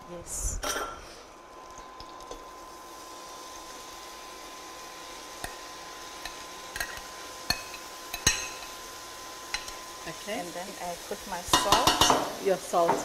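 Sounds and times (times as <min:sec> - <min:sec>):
frying vegetables sizzling: 0:00.0 - 0:13.0.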